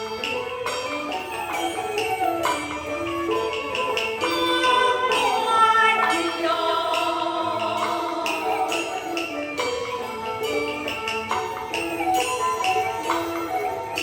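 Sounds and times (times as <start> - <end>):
ensemble percussion strokes: 0.0 - 14.0
opera melody line: 0.0 - 14.0.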